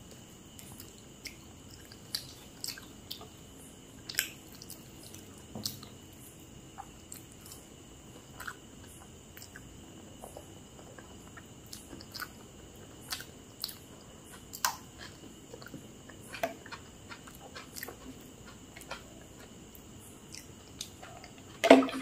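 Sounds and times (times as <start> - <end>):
person chewing food: 0.1 - 3.4, 4.0 - 6.0, 6.8 - 21.6.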